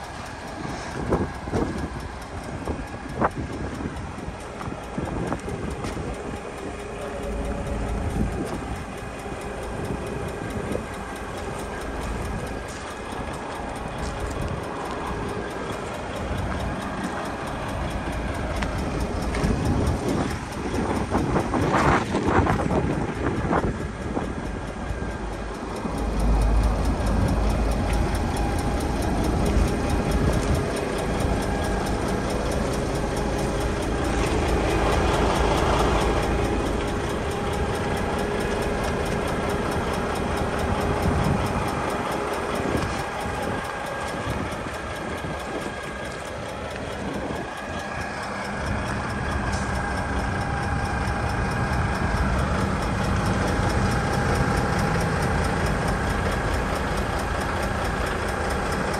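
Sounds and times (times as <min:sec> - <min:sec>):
truck diesel engine idling: 0:00.0 - 0:58.9.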